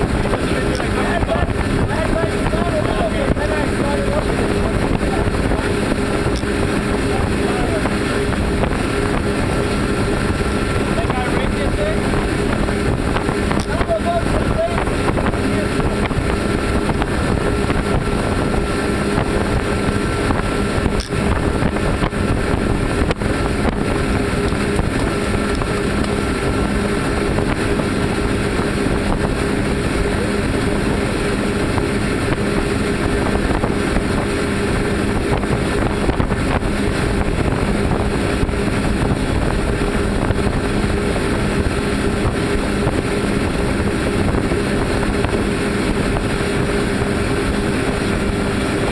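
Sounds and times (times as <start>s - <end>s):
outboard motors droning: 0.0s - 48.9s
water and wind rushing: 0.0s - 48.9s.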